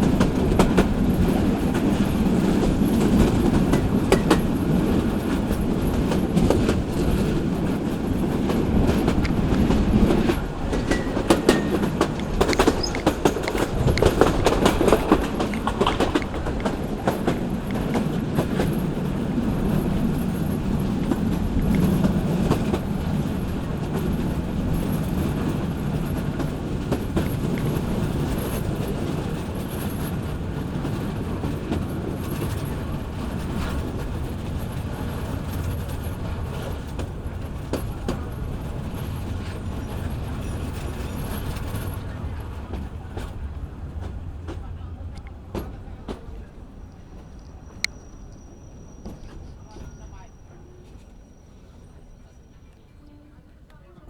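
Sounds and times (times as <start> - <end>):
wheels clacking over rail joints: 0.0 - 51.3
train rumbling on track: 0.0 - 54.0.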